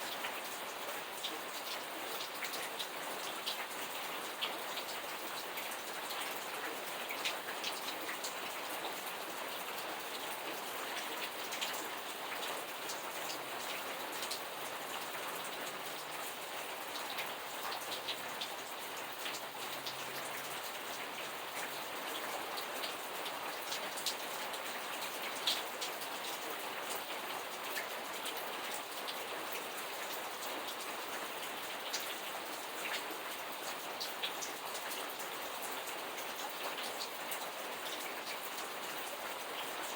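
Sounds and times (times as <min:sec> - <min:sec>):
raindrops ticking on surface: 0:00.0 - 0:39.9
steady rain hiss: 0:00.0 - 0:39.9.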